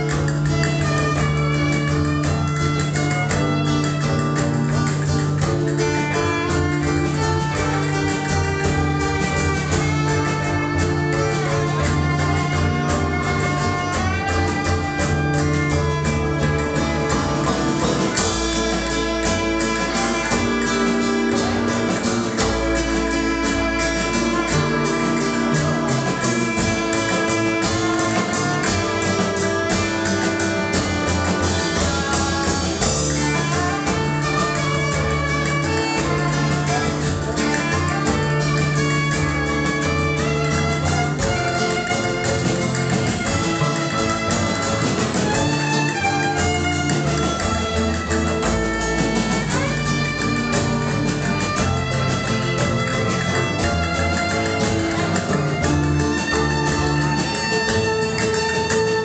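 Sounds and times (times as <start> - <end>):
acoustic guitar: 0.0 - 59.0
double bass low notes: 0.0 - 59.0
violin melody: 0.0 - 59.0.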